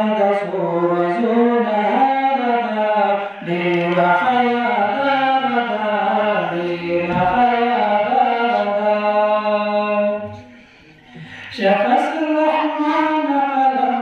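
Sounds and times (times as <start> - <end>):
man chanting unaccompanied: 0.0 - 10.5, 11.4 - 14.0.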